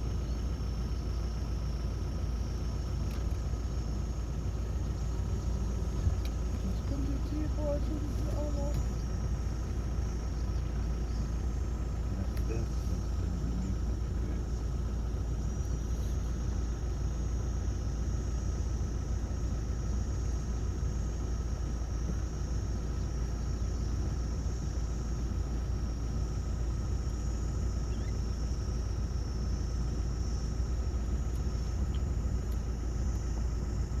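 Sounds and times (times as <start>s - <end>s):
faint high whine: 0.0s - 34.0s
vehicle low rumble: 0.0s - 34.0s.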